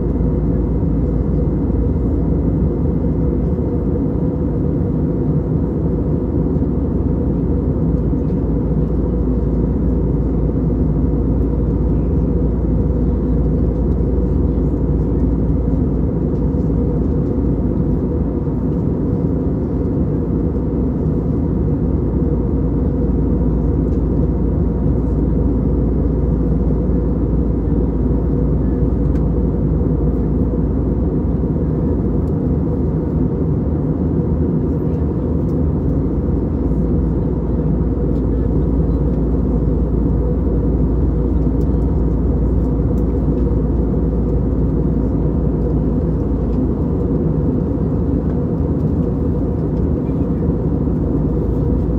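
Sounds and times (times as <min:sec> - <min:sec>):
airliner cabin rumble: 0:00.0 - 0:51.9.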